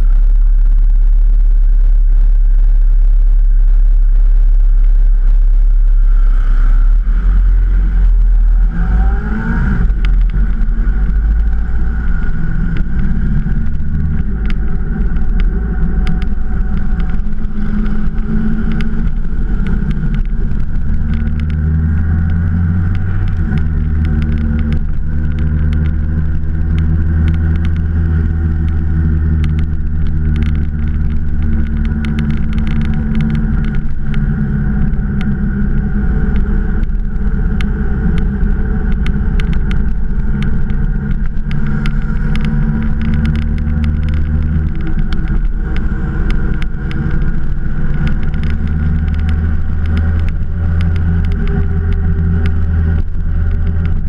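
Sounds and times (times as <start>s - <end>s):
motorcycle engine accelerating: 0.0s - 54.0s
road and wind noise: 0.0s - 54.0s.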